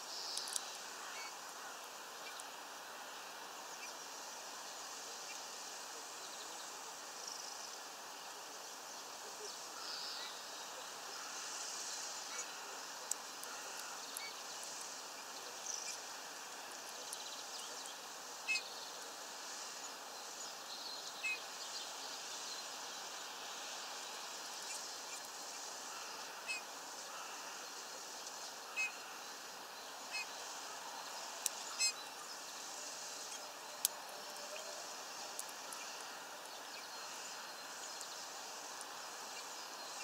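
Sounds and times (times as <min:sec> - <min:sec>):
steady outdoor hiss: 0:00.0 - 0:40.0.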